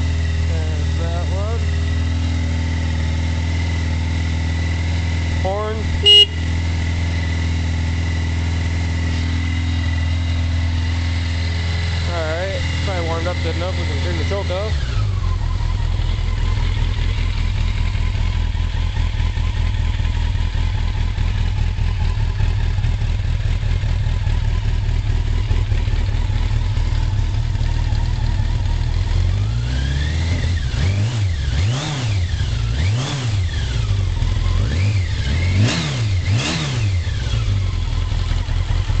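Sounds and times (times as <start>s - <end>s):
motorcycle engine idling: 0.0s - 39.0s
motorcycle engine revving: 0.0s - 39.0s.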